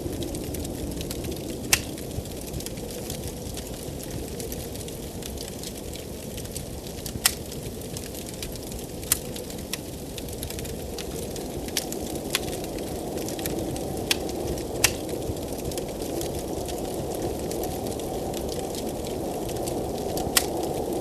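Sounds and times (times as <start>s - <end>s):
blizzard wind rushing: 0.0s - 21.0s
wood fire crackling and popping: 0.0s - 21.0s.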